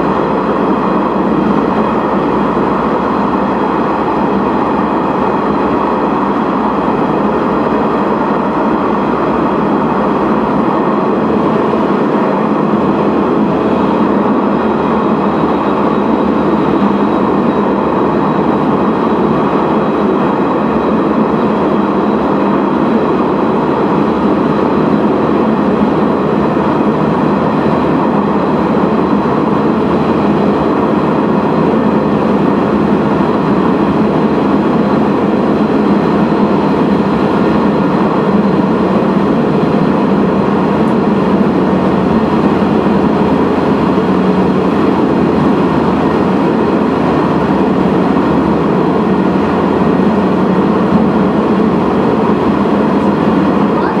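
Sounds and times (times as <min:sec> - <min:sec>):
railcar engine and wheels on rails: 0:00.0 - 0:54.0.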